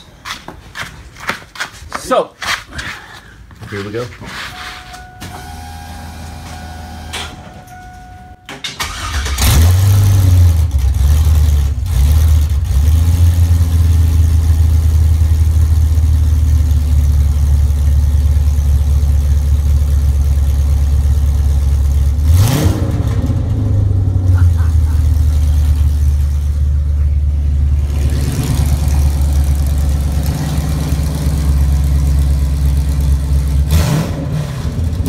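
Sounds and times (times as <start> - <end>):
car engine starting and idling: 4.8 - 35.0.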